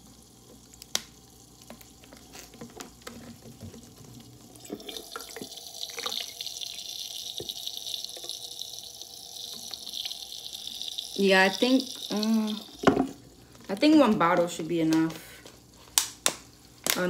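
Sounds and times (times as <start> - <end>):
water pouring and splashing: 0.0 - 14.2
water dripping: 0.0 - 15.1.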